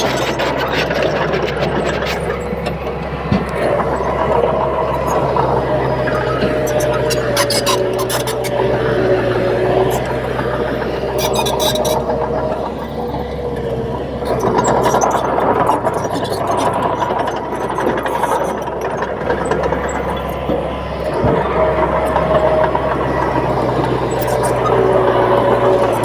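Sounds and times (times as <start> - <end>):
bulldozer diesel engine running: 0.0 - 26.0
held whine: 0.0 - 26.0.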